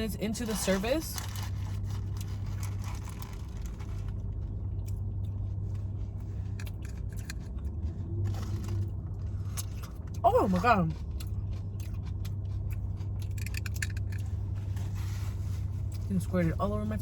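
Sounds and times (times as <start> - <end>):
low hum inside a car: 0.0 - 17.0
close chewing and biting: 0.4 - 16.4.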